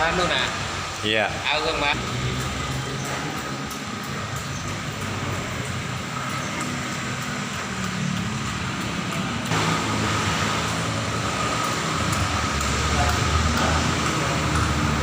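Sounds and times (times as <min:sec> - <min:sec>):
printing machine whirring: 0:01.7 - 0:15.0.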